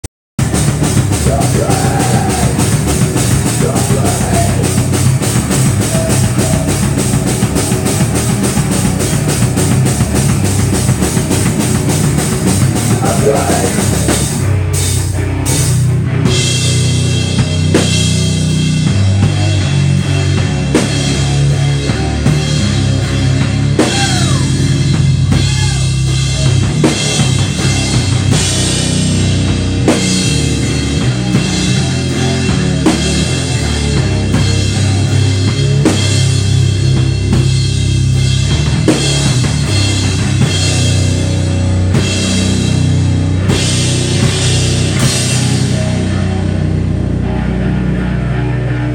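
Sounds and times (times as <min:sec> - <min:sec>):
bass guitar: 0:00.0 - 0:48.9
drum kit with cymbals: 0:00.4 - 0:46.6
electric guitar: 0:00.4 - 0:48.9.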